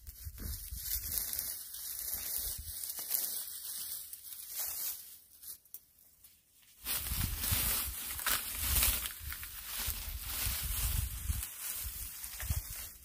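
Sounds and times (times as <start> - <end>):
dry grass rustling and tearing: 0.0 - 13.0.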